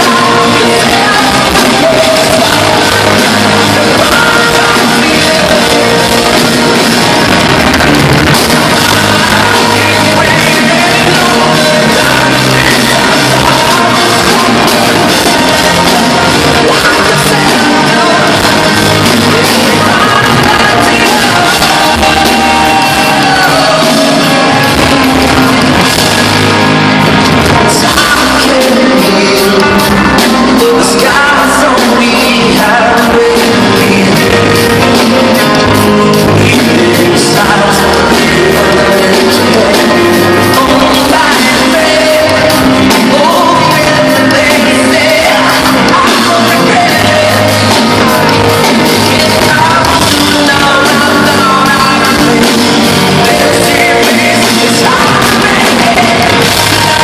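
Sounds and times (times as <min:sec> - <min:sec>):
live rock band playing: 0:00.0 - 0:57.0
man singing: 0:00.0 - 0:57.0.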